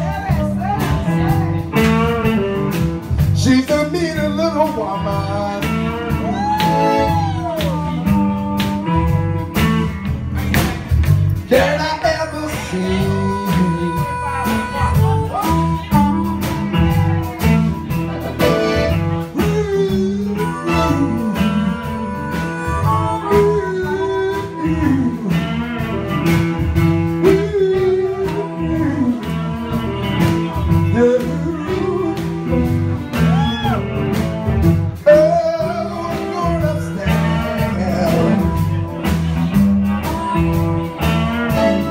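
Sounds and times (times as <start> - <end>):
bending lead guitar line: 0.0 - 41.9
live electric blues band: 0.0 - 41.9.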